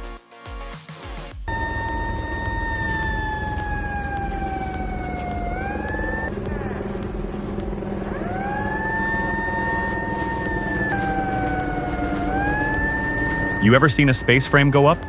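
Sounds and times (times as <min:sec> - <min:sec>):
high machine whine: 0:01.4 - 0:15.0
heavy machinery low rumble: 0:01.5 - 0:15.0.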